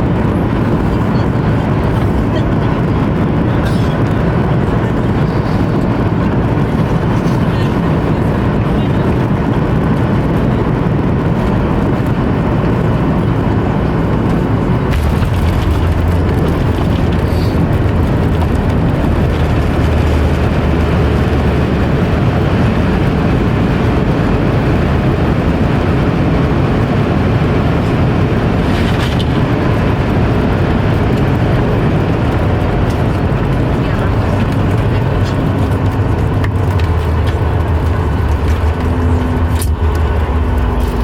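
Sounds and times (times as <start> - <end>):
airliner cabin engine rumble: 0.0 - 41.0
deep low rumble: 0.0 - 41.0.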